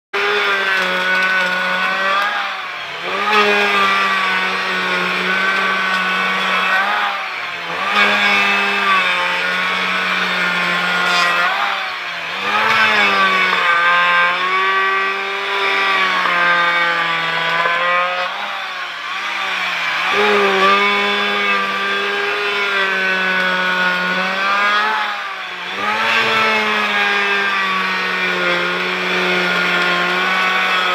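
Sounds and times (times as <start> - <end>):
power woodworking tool motor: 0.2 - 30.9.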